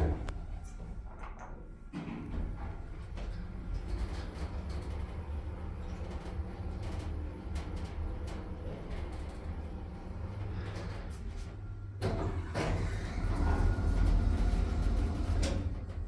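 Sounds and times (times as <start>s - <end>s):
lift humming: 0.0s - 1.2s, 2.2s - 16.0s
sliding doors opening: 2.5s - 16.0s.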